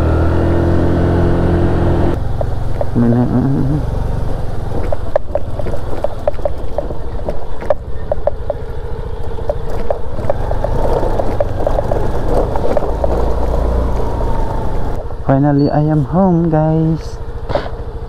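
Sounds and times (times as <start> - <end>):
faint higher engine tone: 0.0 - 12.4, 13.0 - 18.0
motorcycle engine rumble: 0.0 - 18.0.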